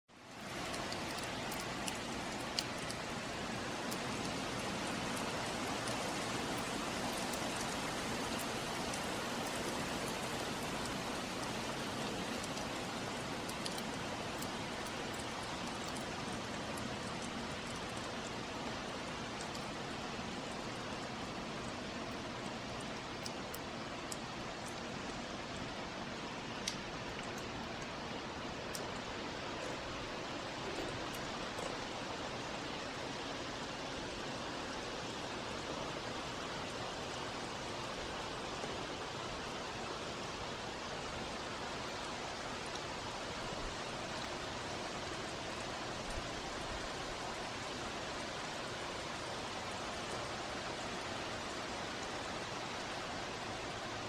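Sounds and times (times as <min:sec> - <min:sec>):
heavy rain pouring: 0:00.1 - 0:54.0
sharp drip ticks: 0:00.2 - 0:38.8, 0:39.4 - 0:53.8.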